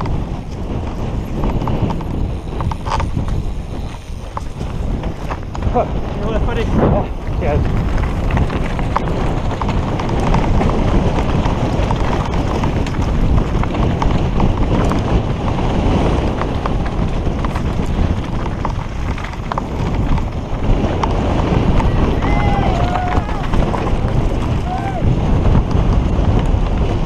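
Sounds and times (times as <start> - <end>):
bike tyres crunching over stones: 0.0 - 27.0
wind buffeting microphone: 0.0 - 27.0.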